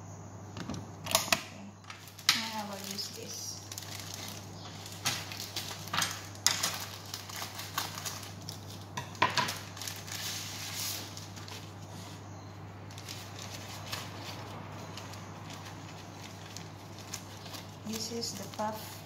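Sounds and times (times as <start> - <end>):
paper packaging crinkling: 1.1 - 19.0.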